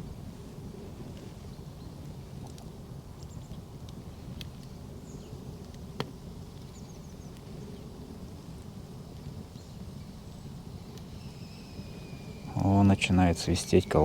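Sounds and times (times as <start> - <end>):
campfire crackling: 0.0 - 14.0
fire popping: 2.0 - 14.0.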